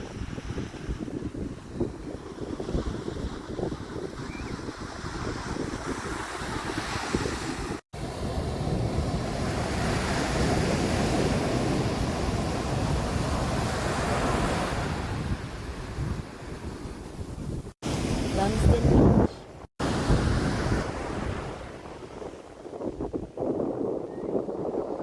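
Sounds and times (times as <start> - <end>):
surf washing on beach: 0.0 - 25.0
wind buffeting microphone: 0.0 - 25.0.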